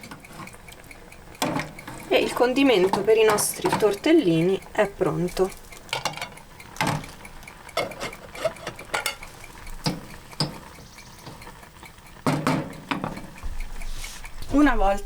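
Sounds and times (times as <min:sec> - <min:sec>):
utensil clinking against pan: 0:00.0 - 0:13.4
utensil stirring and scraping pan: 0:00.0 - 0:15.0.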